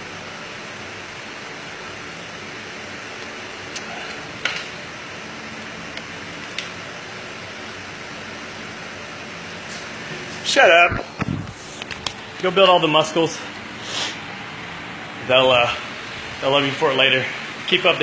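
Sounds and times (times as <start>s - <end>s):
cooling fan running: 0.0s - 18.0s.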